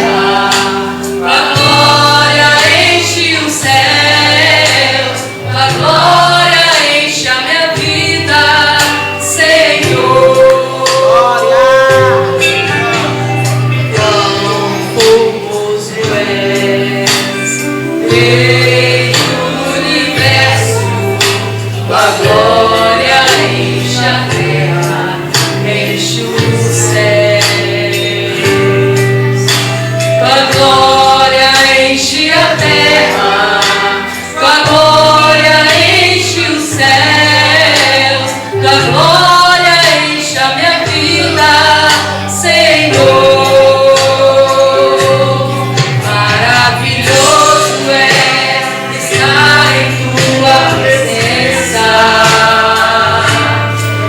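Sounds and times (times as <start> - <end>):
gospel singing with accompaniment: 0.0 - 54.0.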